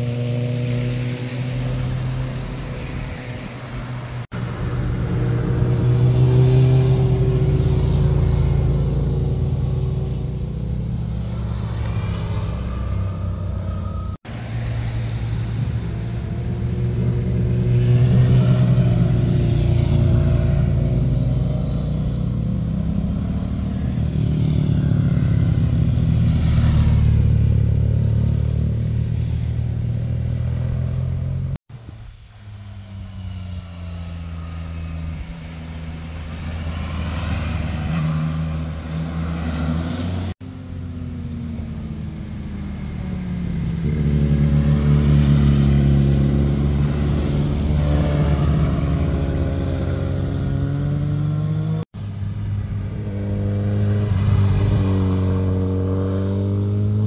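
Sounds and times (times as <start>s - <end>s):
motorcycles passing: 0.0s - 57.0s.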